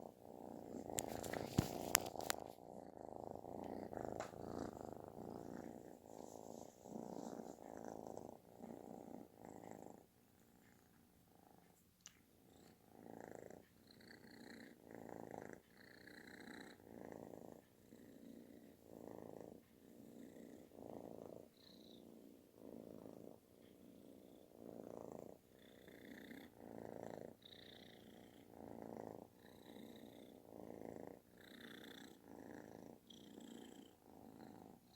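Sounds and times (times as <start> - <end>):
kitten purring loudly: 0.0 - 11.7, 12.4 - 34.9.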